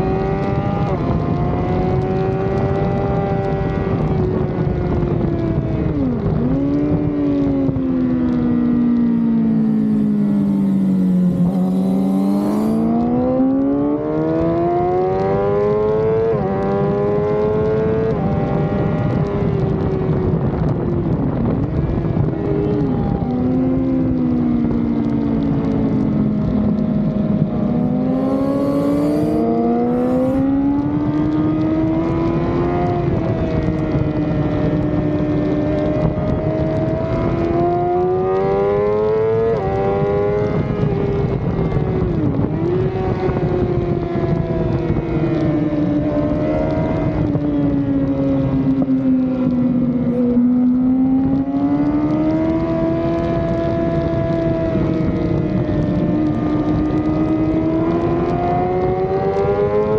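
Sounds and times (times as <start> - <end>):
motorcycle engine at speed: 0.0 - 59.9
wind rush: 3.7 - 14.9, 18.1 - 59.9.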